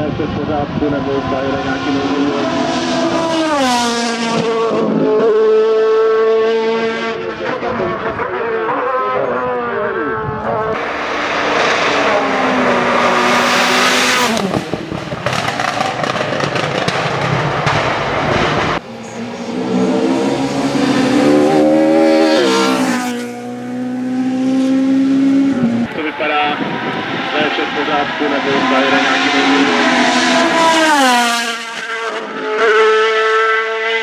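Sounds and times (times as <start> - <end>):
car accelerating: 0.0 - 34.0
race car engines passing by: 0.0 - 34.0.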